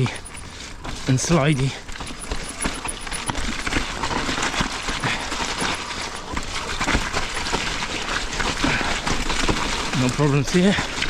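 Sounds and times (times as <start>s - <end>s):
bike knocking and rattling: 0.0s - 11.0s
bike tyre noise: 0.0s - 11.0s.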